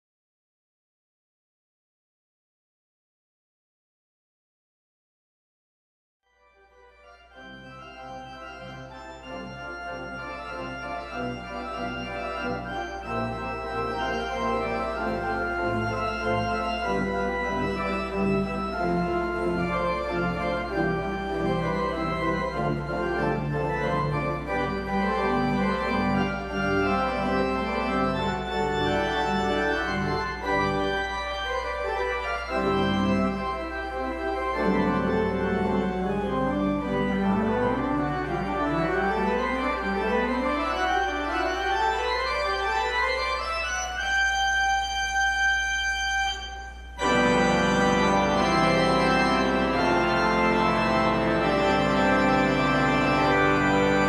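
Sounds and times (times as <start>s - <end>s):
church organ playing chords: 6.4s - 54.0s.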